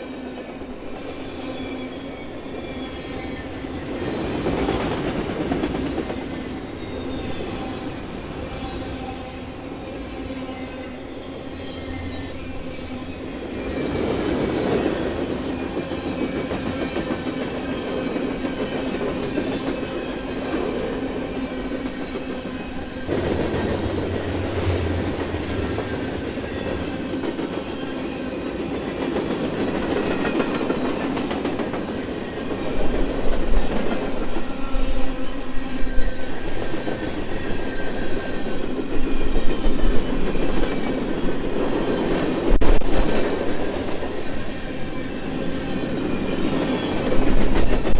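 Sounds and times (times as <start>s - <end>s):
freight train cars rolling: 0.0s - 47.9s.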